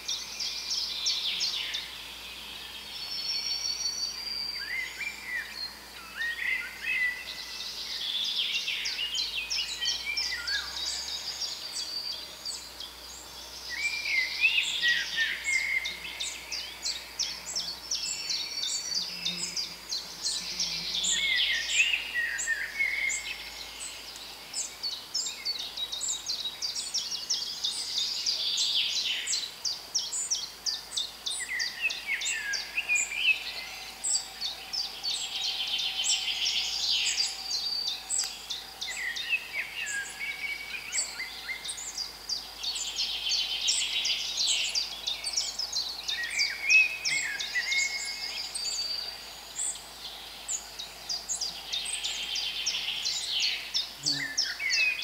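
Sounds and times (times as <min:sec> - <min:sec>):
birds singing: 0:00.0 - 0:55.0.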